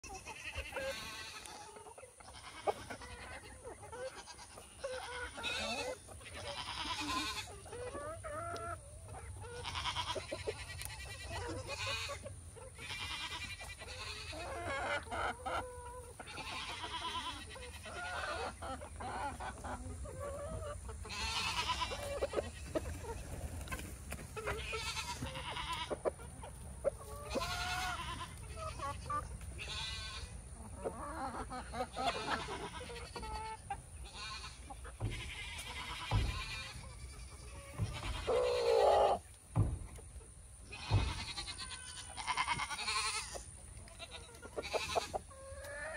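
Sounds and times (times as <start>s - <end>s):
goats bleating: 0.0s - 3.4s, 4.0s - 8.2s, 9.2s - 15.1s, 16.0s - 18.9s, 20.8s - 23.2s, 24.4s - 26.1s, 27.0s - 30.4s, 31.7s - 39.2s, 40.6s - 45.8s
chickens clucking: 0.0s - 45.9s.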